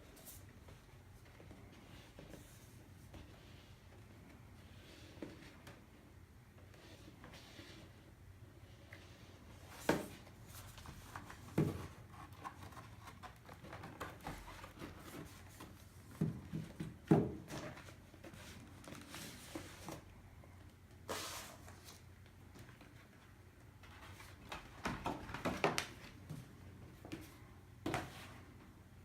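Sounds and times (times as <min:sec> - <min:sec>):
soft handling noise: 0:00.0 - 0:28.8.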